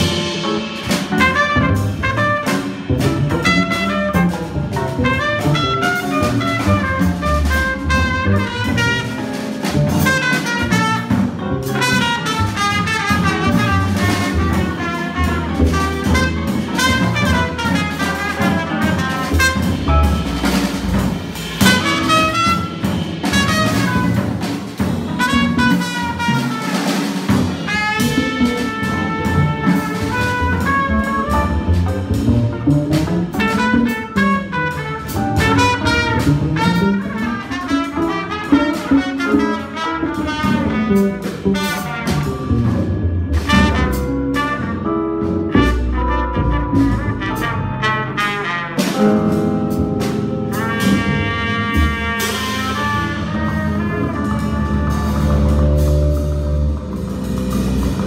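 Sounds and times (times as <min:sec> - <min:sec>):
drum kit: 0:00.0 - 0:58.0
trumpet: 0:00.0 - 0:58.0
upright bass: 0:00.0 - 0:58.0.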